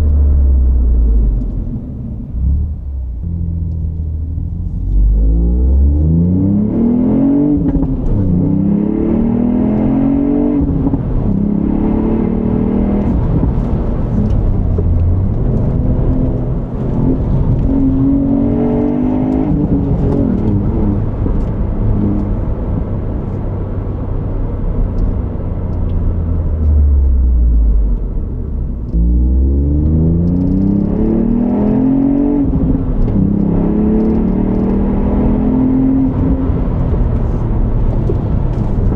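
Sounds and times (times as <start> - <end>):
car engine accelerating through gears: 0.0 - 38.9
tyre and road noise: 0.0 - 38.9.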